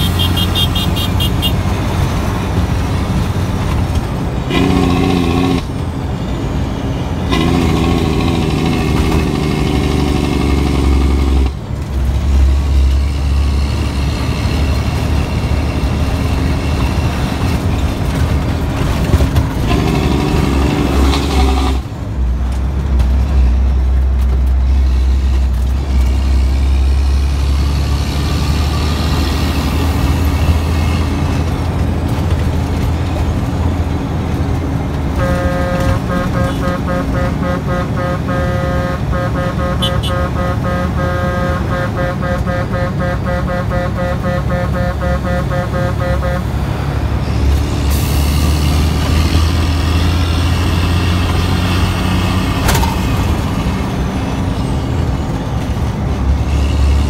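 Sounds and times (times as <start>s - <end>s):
diesel truck engine drone: 0.0s - 57.0s.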